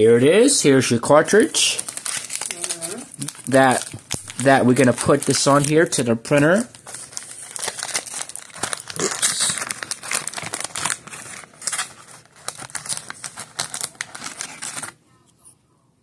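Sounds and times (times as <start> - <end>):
foil and cardboard crinkling: 1.7 - 15.0.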